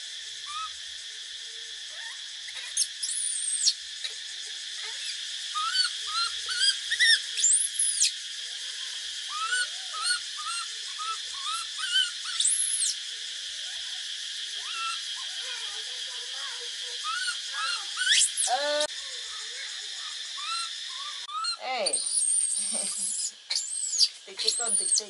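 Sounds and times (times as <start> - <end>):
long arched whistles: 0.0 - 25.0
steady high hiss: 0.0 - 25.0
animal chirps and squeaks: 0.5 - 0.7, 1.9 - 4.2, 4.8 - 8.2, 9.3 - 13.0, 14.6 - 25.0.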